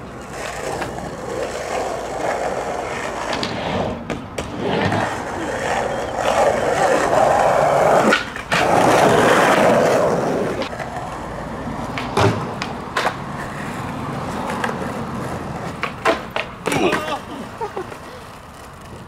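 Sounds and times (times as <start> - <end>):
skateboard wheels rolling: 0.0 - 19.0
skateboard clacks and impacts: 0.3 - 17.2.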